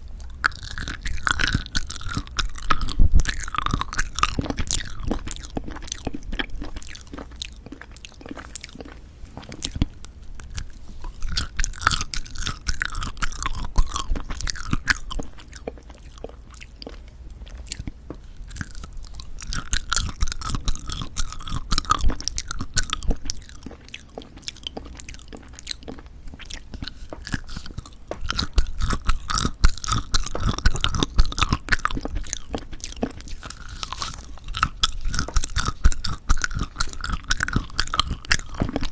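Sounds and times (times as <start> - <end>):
jelly candies being chewed: 0.0 - 38.9.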